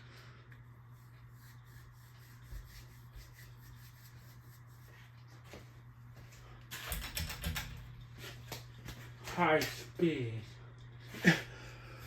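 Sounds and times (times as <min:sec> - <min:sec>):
ceiling fan humming and ticking: 0:00.0 - 0:12.0.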